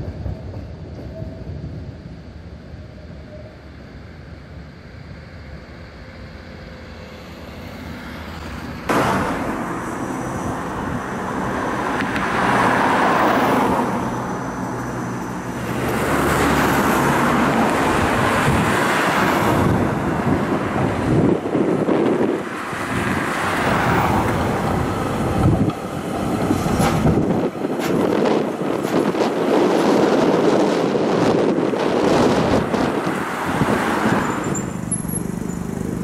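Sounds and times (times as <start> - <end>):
low street ambience: 0.0 - 36.0
cars passing: 6.1 - 36.0.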